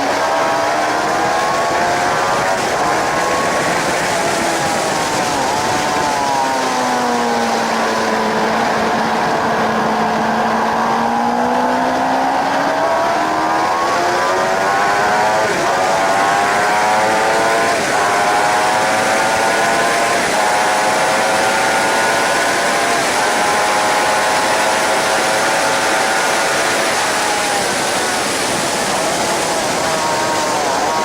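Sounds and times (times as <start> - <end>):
motorcycle engine revving: 0.0 - 31.0
wind rush: 0.0 - 31.0.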